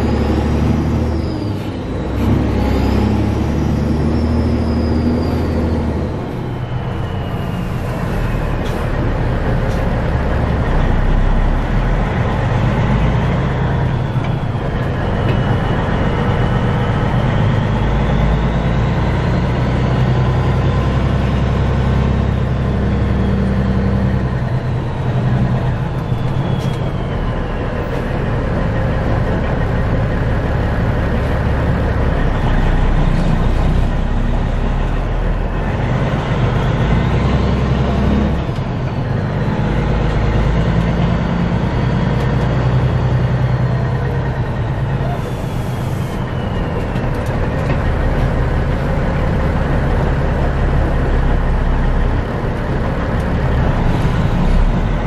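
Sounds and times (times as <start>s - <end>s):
diesel truck engine drone: 0.0s - 55.0s.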